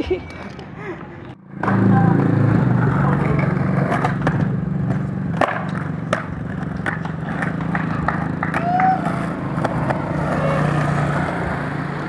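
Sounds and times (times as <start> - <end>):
skateboard wheels rolling on asphalt: 1.6 - 12.0.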